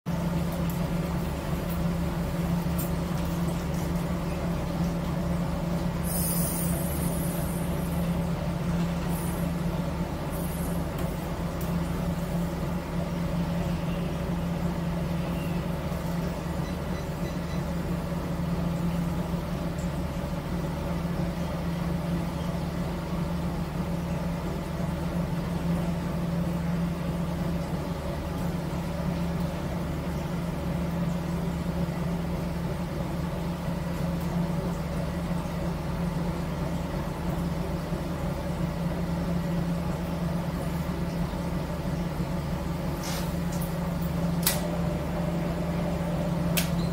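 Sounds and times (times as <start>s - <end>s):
marine diesel engine humming: 0.1s - 46.9s.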